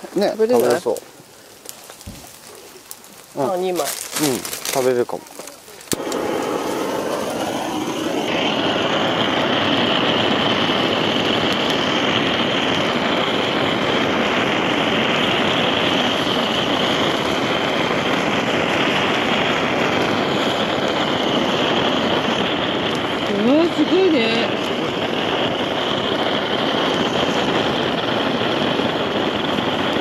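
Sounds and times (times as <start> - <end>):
gas torch hissing: 0.0 - 30.0.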